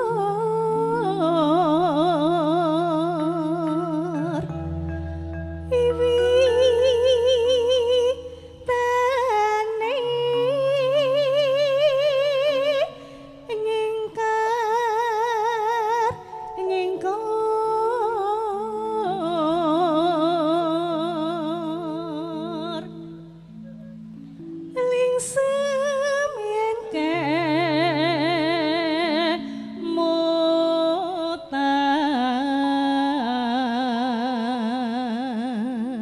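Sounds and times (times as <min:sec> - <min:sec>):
woman singing with vibrato: 0:00.0 - 0:04.9, 0:05.6 - 0:23.7, 0:24.7 - 0:36.0
sustained keyboard notes: 0:00.2 - 0:31.9.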